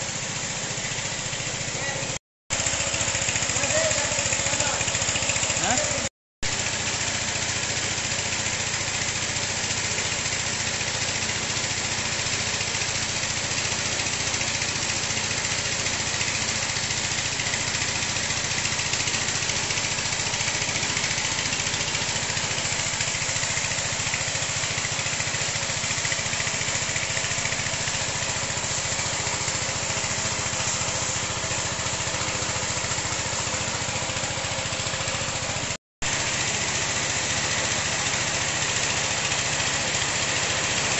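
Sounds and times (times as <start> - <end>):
small petrol engine running: 0.0 - 40.9
water jet hissing: 0.0 - 40.9.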